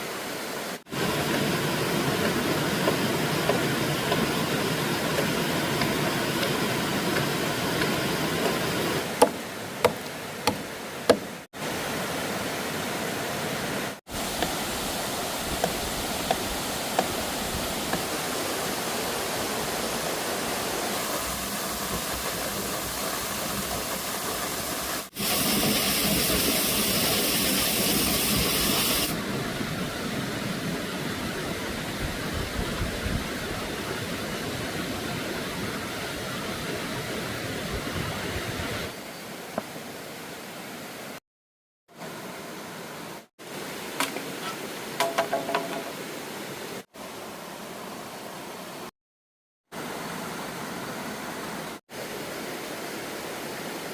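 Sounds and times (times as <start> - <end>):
running water rushing: 0.0 - 41.2, 41.9 - 48.9, 49.7 - 53.9.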